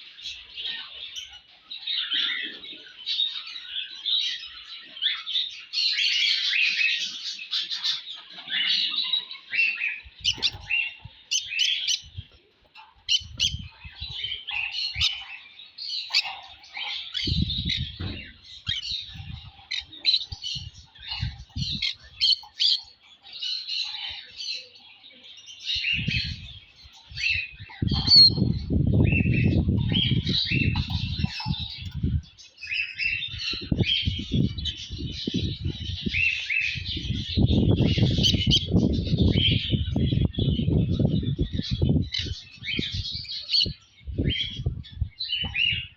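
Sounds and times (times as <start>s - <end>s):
cage birds chirping: 0.0s - 45.9s.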